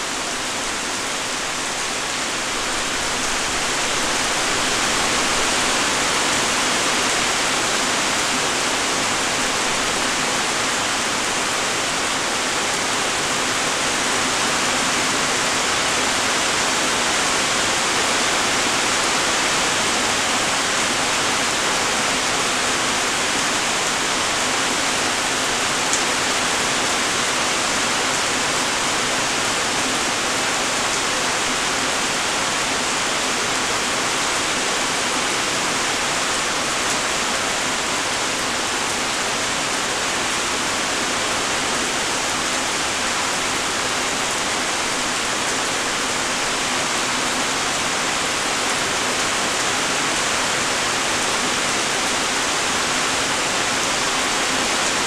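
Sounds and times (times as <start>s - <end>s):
light rain falling: 0.0s - 55.0s.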